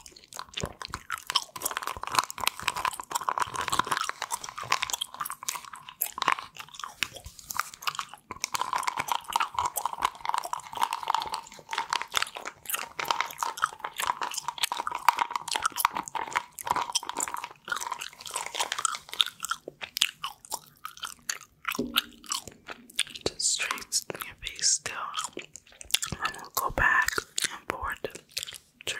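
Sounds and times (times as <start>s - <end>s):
gum chewing close to microphone: 0.0s - 28.9s.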